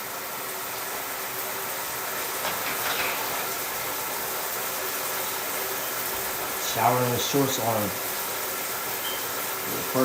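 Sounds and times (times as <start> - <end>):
shower spray running: 0.0 - 10.0.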